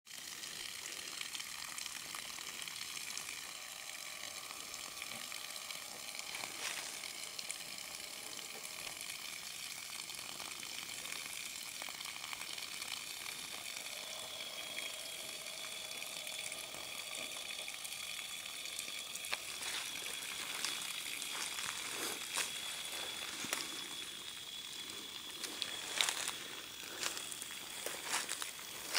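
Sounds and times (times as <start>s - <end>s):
hose water pouring into plastic drum: 0.1s - 28.9s
thin high tone: 2.2s - 28.9s.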